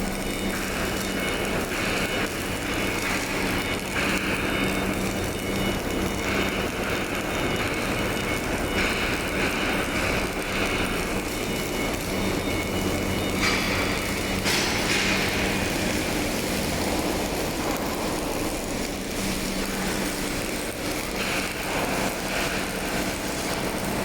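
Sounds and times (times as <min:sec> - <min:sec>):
welding hiss: 0:00.0 - 0:24.0
welding machine hum: 0:00.0 - 0:24.0.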